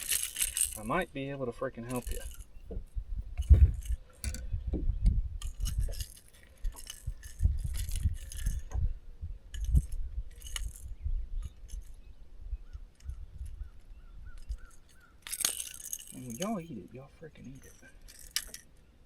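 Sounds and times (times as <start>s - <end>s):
metallic clinking and rattling: 0.0s - 1.1s, 1.8s - 4.5s, 5.4s - 8.8s, 9.5s - 12.0s, 12.9s - 18.8s.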